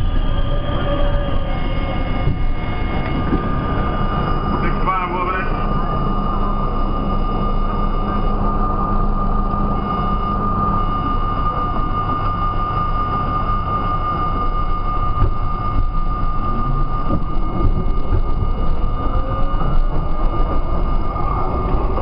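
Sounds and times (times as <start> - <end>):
subway car mechanical hum: 0.0 - 22.0
train pulling out rumble: 0.0 - 22.0.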